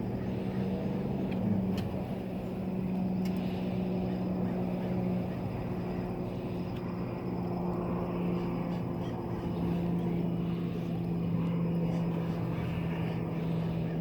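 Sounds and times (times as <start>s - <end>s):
low mechanical engine drone: 0.0s - 14.0s.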